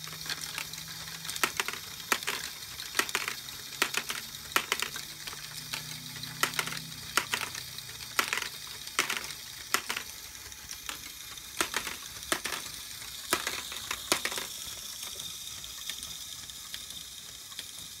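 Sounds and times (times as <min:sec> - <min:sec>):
plastic balls clicking and clacking: 0:00.0 - 0:18.0
steady plastic gear rattle: 0:00.0 - 0:18.0.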